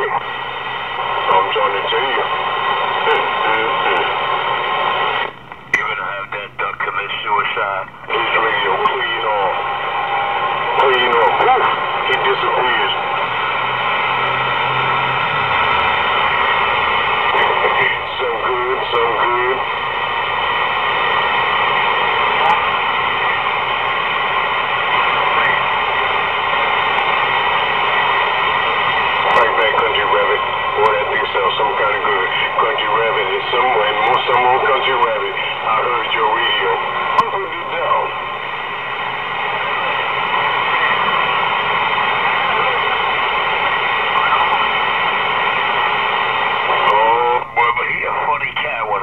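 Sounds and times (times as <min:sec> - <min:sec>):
faint garbled radio voices: 0:00.0 - 0:49.0
radio static hiss: 0:00.0 - 0:49.0.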